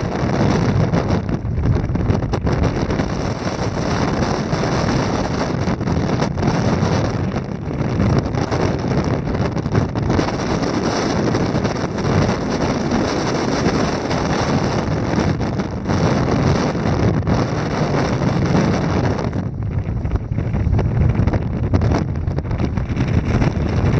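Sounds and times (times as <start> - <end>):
strong wind on microphone: 0.0 - 23.9.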